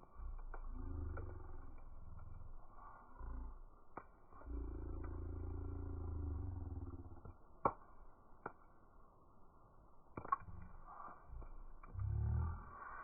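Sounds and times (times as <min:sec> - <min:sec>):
deep rumbling whoosh of fire: 0:00.0 - 0:07.8, 0:10.2 - 0:13.0
burning wood crackling and popping: 0:00.0 - 0:13.0.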